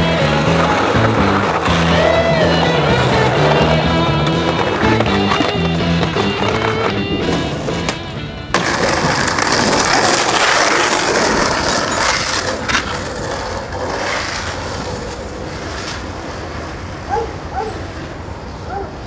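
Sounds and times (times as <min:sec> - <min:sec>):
skateboard rolling and scraping: 0:00.0 - 0:19.0.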